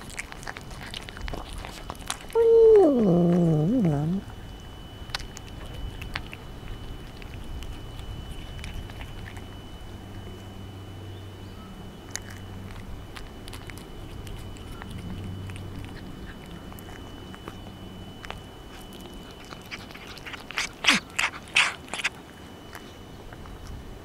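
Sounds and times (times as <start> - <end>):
cat chewing and licking: 0.0 - 24.0.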